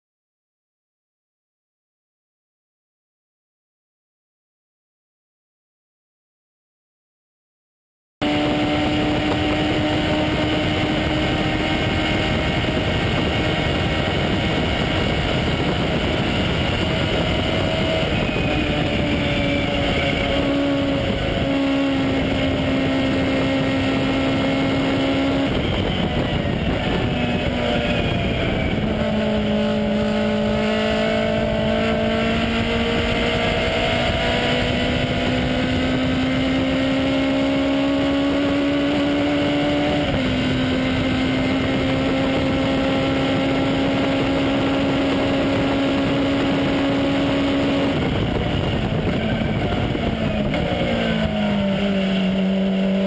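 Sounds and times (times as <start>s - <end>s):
racing car engine under load: 8.2s - 53.0s
wind and road noise: 8.2s - 53.0s.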